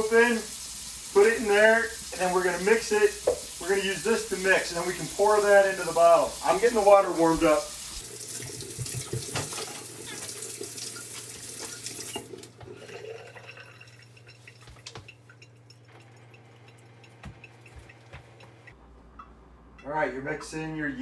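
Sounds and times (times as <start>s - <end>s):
water running from a tap: 0.0s - 18.8s.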